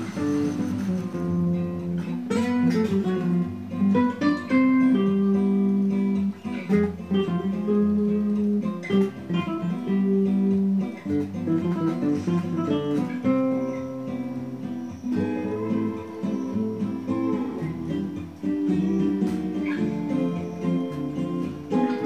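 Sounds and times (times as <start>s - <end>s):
plucked and strummed guitar: 0.0s - 22.0s.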